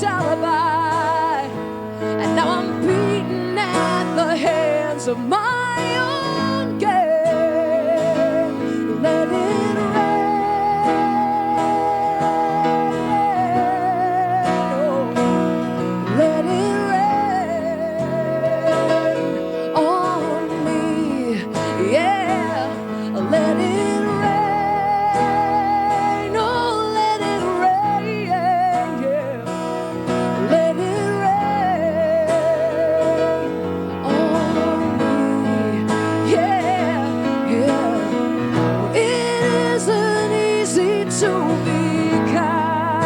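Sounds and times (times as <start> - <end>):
acoustic guitar: 0.0 - 43.0
woman singing with vibrato: 0.0 - 43.0.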